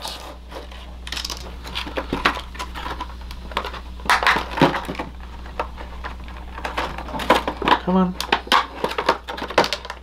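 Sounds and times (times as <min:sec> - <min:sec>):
plastic tray crackling and snapping: 0:01.1 - 0:10.0.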